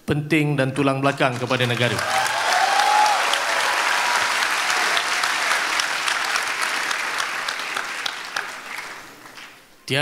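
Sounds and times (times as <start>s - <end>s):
large audience applauding: 1.1s - 9.6s.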